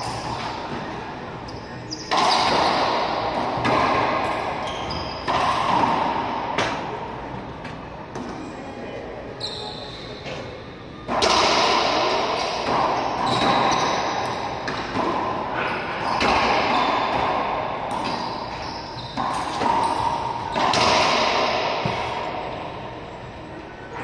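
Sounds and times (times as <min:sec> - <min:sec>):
racquetball hits echoing: 0:00.0 - 0:08.5, 0:10.2 - 0:23.3.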